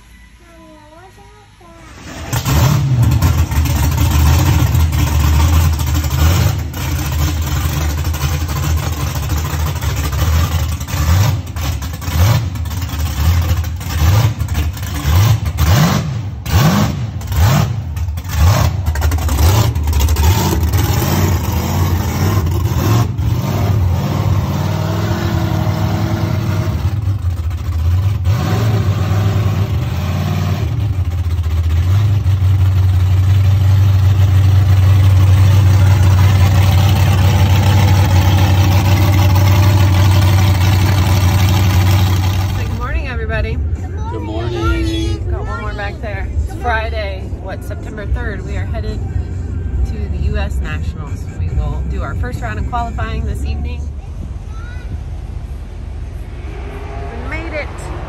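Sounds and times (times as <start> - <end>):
car engine revving and idling: 1.6 - 58.0.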